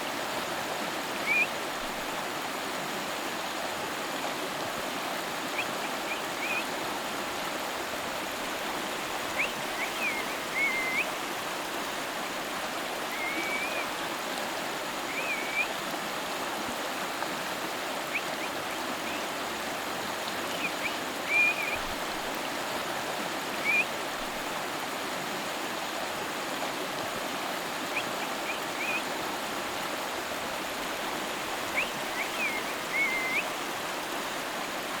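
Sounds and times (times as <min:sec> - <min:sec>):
river water rushing: 0:00.0 - 0:35.0.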